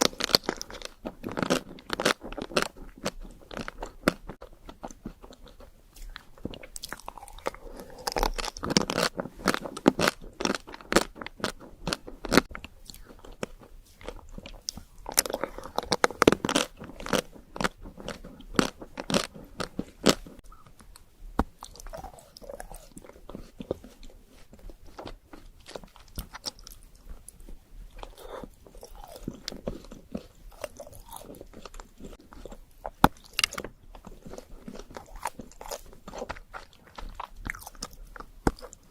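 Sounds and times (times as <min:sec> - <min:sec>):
biting and chewing: 0:00.0 - 0:38.9
crunches and crackles: 0:00.0 - 0:38.9.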